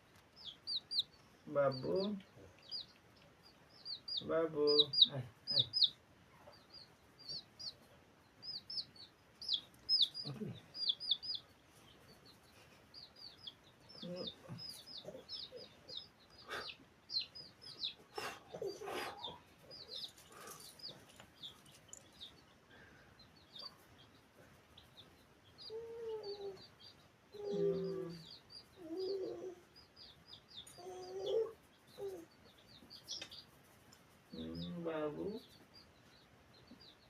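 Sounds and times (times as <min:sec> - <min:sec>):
hen clucking: 0:00.0 - 0:33.5
chicks peeping: 0:00.0 - 0:37.0.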